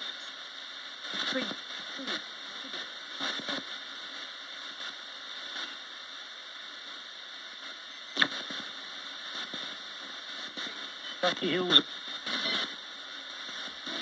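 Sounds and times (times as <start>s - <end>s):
radio static hissing: 0.0s - 14.0s.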